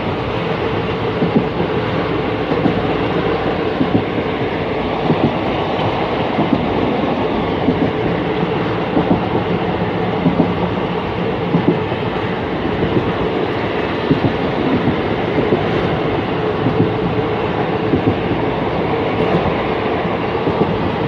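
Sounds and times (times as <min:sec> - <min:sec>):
train rumble: 0:00.0 - 0:21.0
wheels clacking over rail joints: 0:00.0 - 0:21.0.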